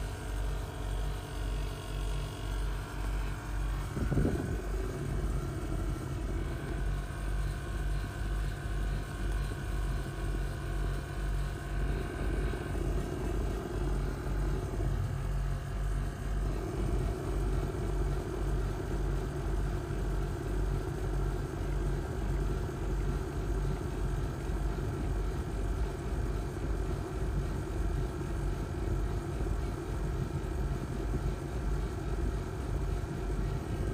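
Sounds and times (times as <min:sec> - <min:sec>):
car engine idling: 0:00.0 - 0:30.1.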